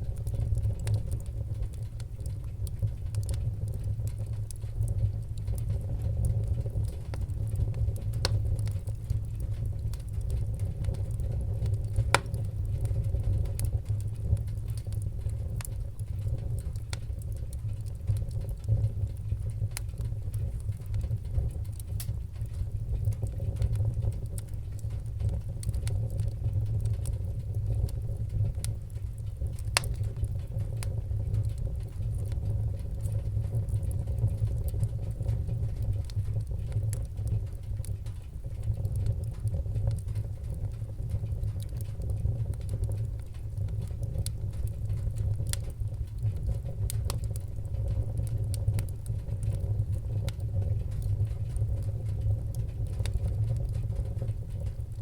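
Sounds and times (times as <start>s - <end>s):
fire crackling and popping: 0.0s - 55.0s
wood fire rumbling: 0.0s - 55.0s.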